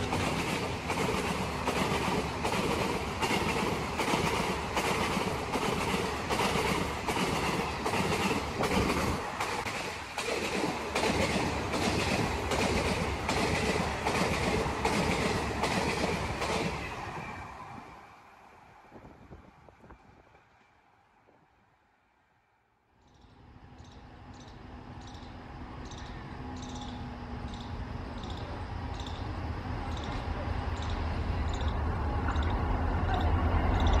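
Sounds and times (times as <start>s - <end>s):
train wheels clickety-clack: 0.0s - 17.0s, 23.0s - 34.0s.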